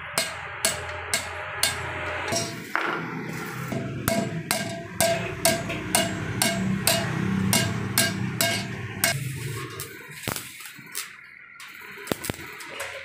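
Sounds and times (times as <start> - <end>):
hammer striking steel: 0.0 - 13.0.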